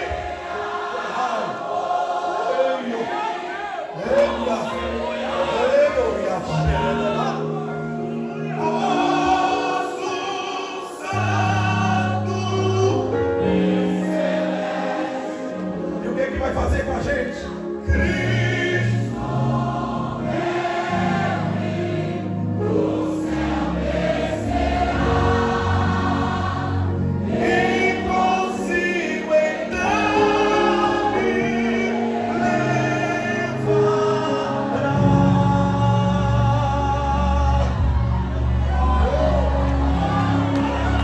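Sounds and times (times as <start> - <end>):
gospel choir singing: 0.0 - 41.0.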